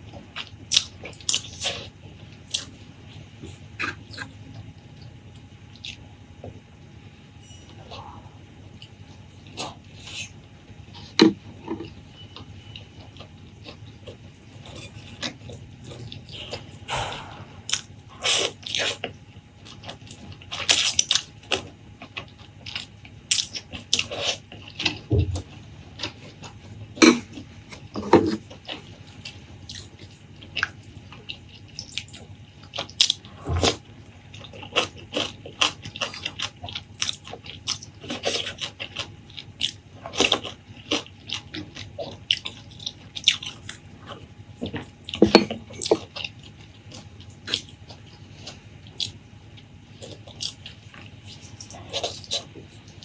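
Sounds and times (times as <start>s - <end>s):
wet chewing: 0.0s - 6.6s, 7.7s - 53.0s.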